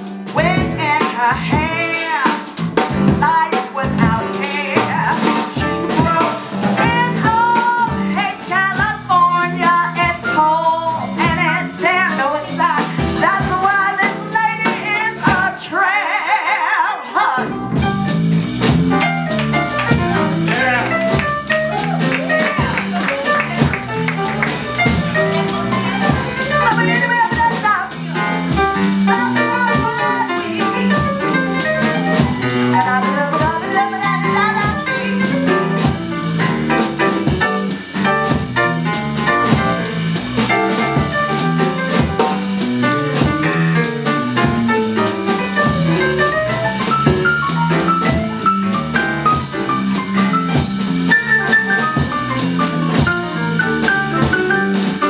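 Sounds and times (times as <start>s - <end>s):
drum kit and cymbals: 0.0s - 55.0s
jazz band playing: 0.0s - 55.0s.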